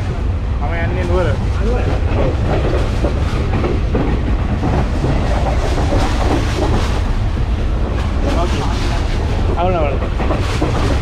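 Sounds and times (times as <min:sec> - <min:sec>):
train interior low rumble: 0:00.0 - 0:11.0
wheels clattering over rail joints: 0:00.6 - 0:11.0.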